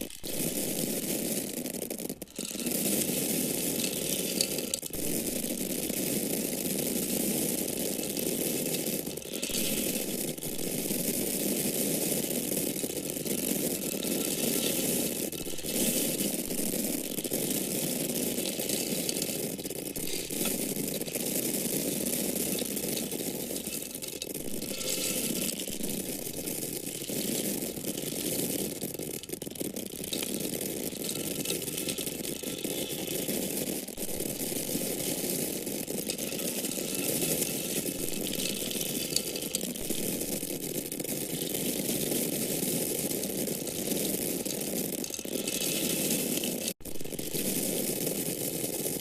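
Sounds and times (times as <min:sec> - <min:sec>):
dried corn kernels pouring: 0:00.0 - 0:49.0.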